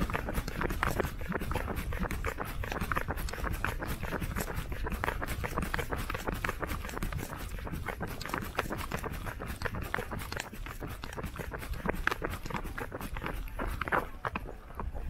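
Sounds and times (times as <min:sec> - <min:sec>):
running footsteps on concrete: 0:00.0 - 0:15.0.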